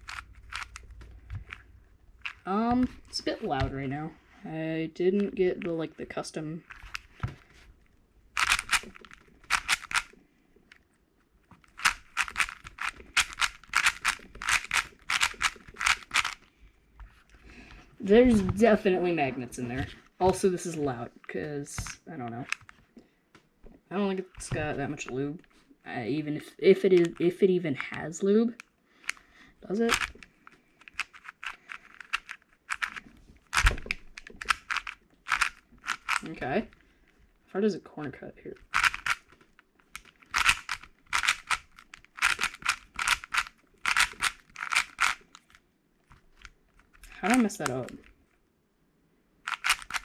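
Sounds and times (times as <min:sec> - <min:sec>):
puzzle cube layers clacking: 0:00.0 - 0:04.0, 0:05.2 - 0:07.7, 0:08.3 - 0:10.2, 0:11.5 - 0:22.8, 0:24.1 - 0:25.5, 0:26.8 - 0:28.0, 0:29.0 - 0:36.8, 0:38.0 - 0:48.2, 0:49.4 - 0:50.0.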